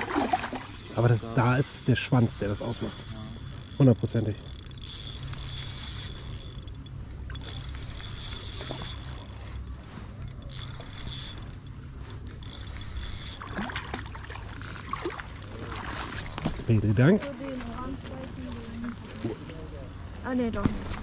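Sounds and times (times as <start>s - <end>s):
fishing reel gears whirring: 0.0s - 17.1s.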